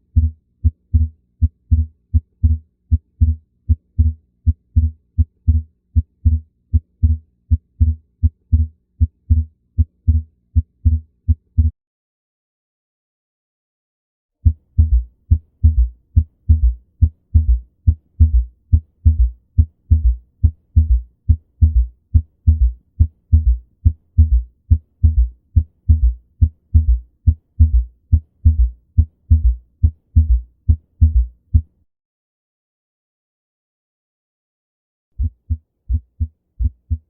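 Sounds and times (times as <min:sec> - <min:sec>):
heartbeat thumps: 0:00.2 - 0:08.7, 0:09.3 - 0:11.7, 0:14.4 - 0:31.7, 0:35.2 - 0:37.0.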